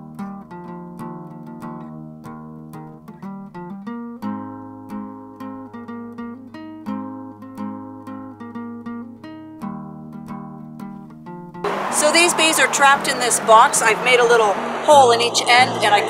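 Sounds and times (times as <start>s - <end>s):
picked acoustic guitar: 0.0s - 16.0s.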